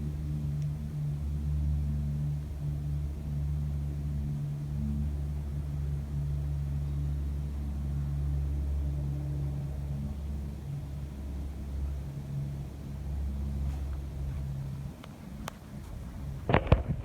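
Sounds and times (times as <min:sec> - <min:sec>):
low droning hum: 0:00.0 - 0:17.0.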